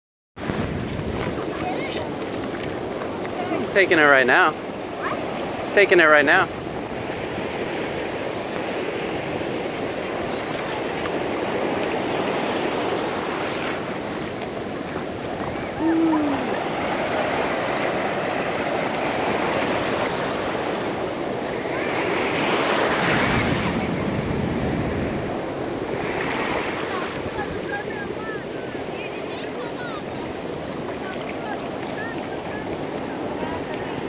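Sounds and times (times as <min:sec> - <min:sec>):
ocean surf breaking on beach: 0:00.4 - 0:34.0.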